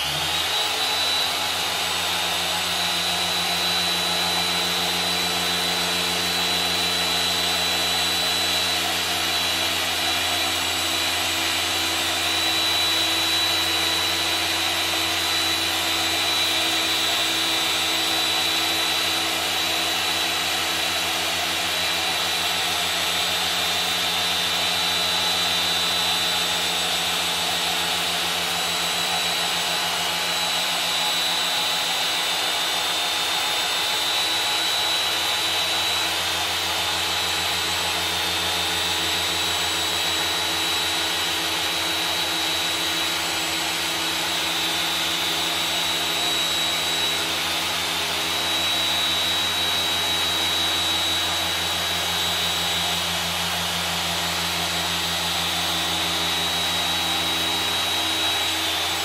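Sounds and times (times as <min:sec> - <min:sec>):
polisher motor whining: 0:00.0 - 0:59.0.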